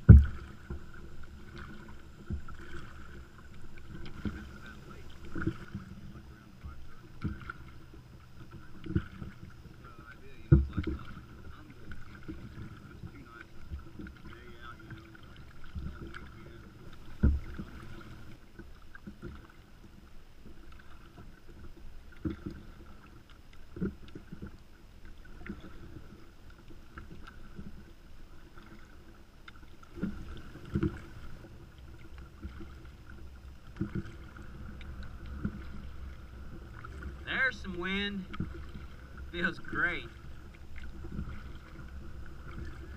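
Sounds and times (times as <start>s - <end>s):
paddle splashing in water: 0.0s - 42.9s.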